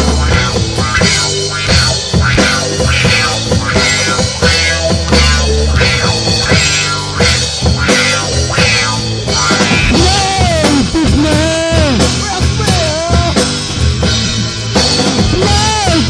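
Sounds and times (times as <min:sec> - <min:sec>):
lead melody with bending notes: 0:00.0 - 0:16.0
rock band playing: 0:00.0 - 0:16.0.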